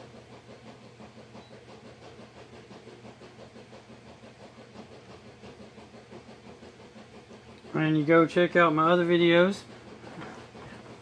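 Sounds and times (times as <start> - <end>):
machine hum with flutter: 0.0 - 11.0.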